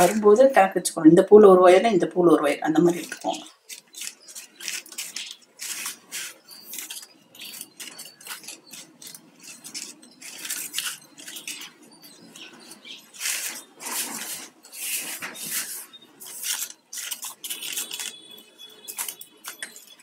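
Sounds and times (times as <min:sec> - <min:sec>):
plastic wire rustling and clicking: 0:02.8 - 0:20.0.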